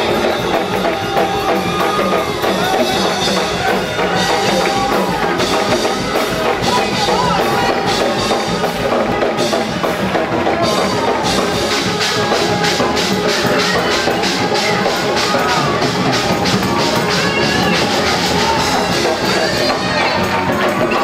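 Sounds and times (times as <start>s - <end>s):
drum kit beat: 0.0s - 21.0s
live gospel music: 0.0s - 21.0s.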